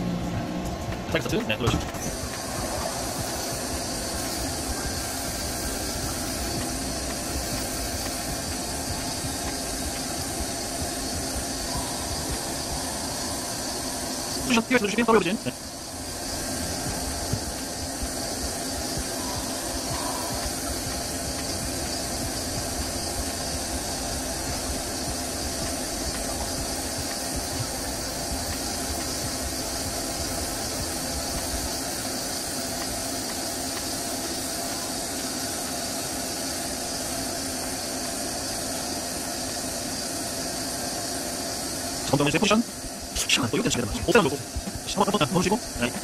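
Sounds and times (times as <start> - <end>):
lathe machine humming: 0.0 - 46.0.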